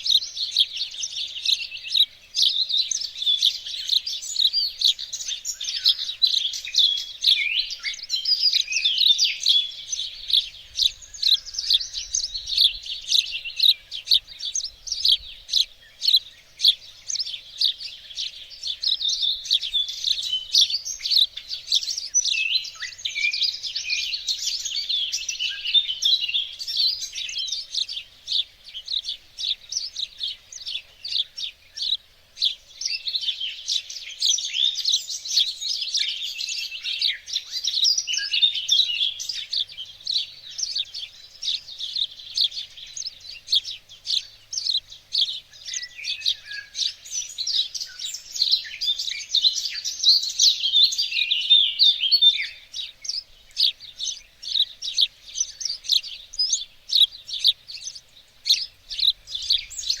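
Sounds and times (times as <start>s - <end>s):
songbirds chirping and singing: 0.0s - 60.0s.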